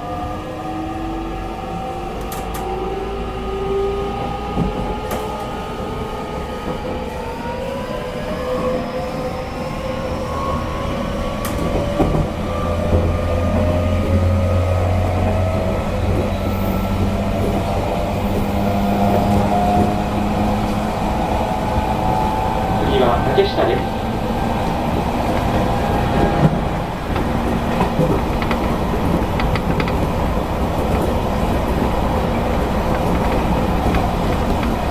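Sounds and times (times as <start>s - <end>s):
wheels rumbling on rail: 0.0s - 34.9s.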